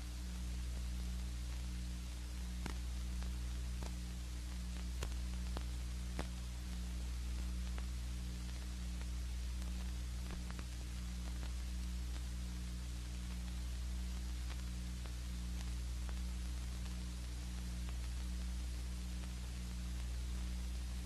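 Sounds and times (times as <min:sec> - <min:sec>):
film hiss: 0:00.0 - 0:21.0.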